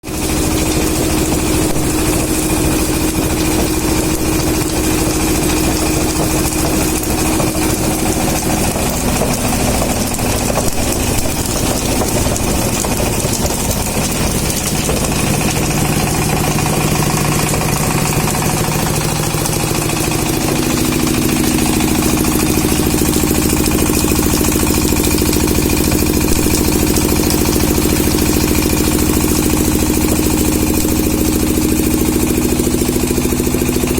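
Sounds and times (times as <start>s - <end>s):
shredding machine humming: 0.0s - 33.9s.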